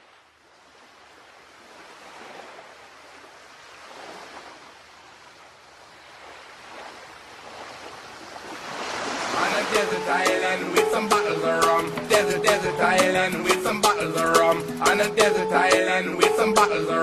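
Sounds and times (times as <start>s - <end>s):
ocean surf breaking: 0.8s - 17.0s.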